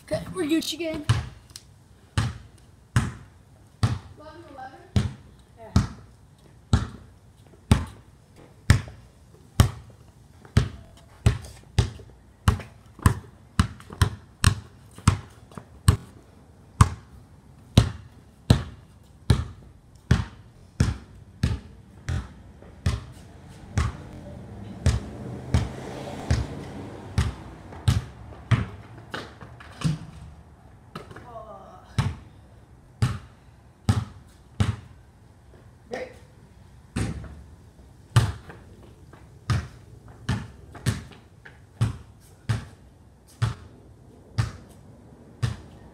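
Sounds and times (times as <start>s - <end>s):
basketball bouncing on concrete: 0.2s - 1.4s, 2.1s - 6.1s, 6.7s - 16.2s, 16.8s - 30.3s, 30.9s - 32.3s, 33.0s - 35.0s, 36.9s - 37.4s, 38.1s - 43.7s, 44.4s - 44.8s, 45.4s - 45.8s.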